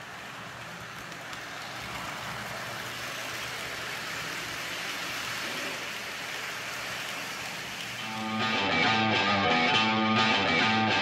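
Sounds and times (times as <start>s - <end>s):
model train whirring on rails: 0.0s - 9.1s.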